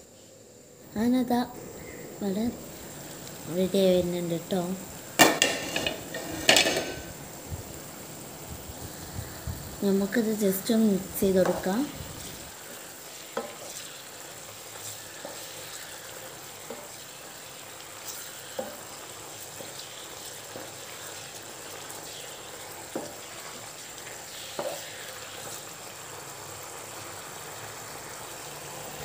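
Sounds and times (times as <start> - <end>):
squid sizzling in a pan: 0.0 - 29.0.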